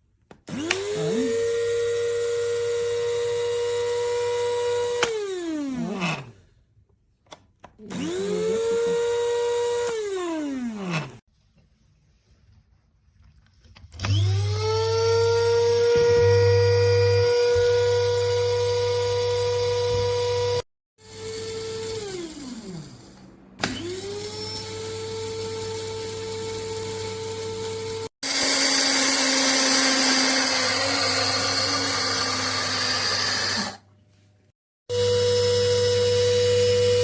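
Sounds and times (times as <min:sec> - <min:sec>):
coffee grinder motor whining: 0:00.5 - 0:06.3, 0:07.9 - 0:11.2, 0:14.0 - 0:33.9, 0:34.9 - 0:37.0.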